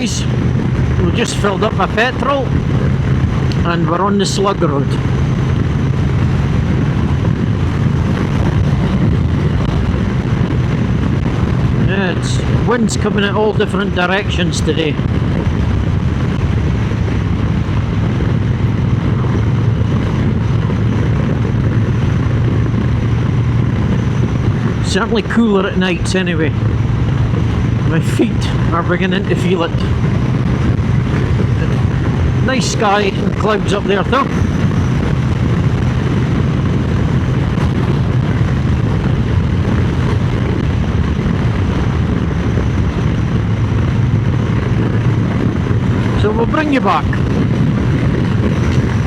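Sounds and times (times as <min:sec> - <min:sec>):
motorcycle engine droning: 0:00.0 - 0:49.0
wind buffeting microphone: 0:00.0 - 0:49.0.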